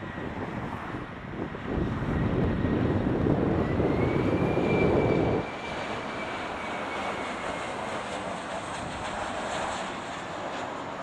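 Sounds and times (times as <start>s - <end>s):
high jet whine: 0.0s - 11.0s
jet engine rumble: 0.0s - 11.0s.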